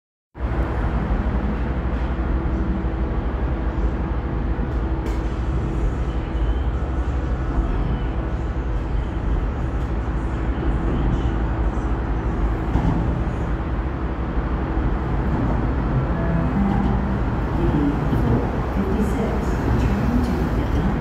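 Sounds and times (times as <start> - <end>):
electric train rumble: 0.4 - 21.0.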